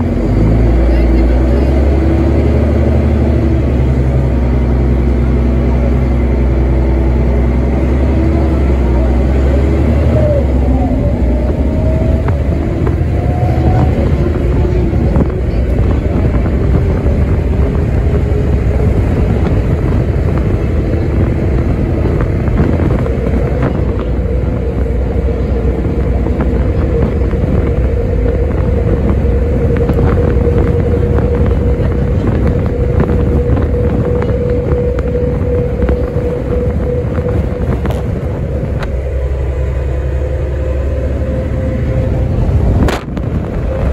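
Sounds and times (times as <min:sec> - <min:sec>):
bus engine and road rumble: 0:00.0 - 0:43.9
engine whine: 0:00.0 - 0:43.9.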